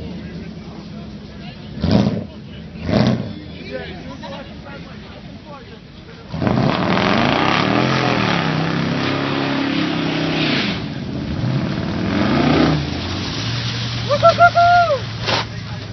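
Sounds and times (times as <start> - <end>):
vehicle engine revving: 0.0 - 5.2, 5.8 - 15.9
vehicle driving through water: 0.0 - 15.9.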